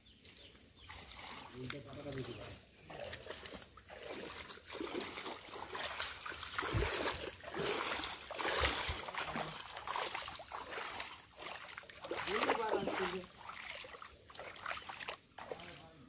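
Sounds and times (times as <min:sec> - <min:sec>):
bare feet splashing in muddy water: 0:00.0 - 0:16.0.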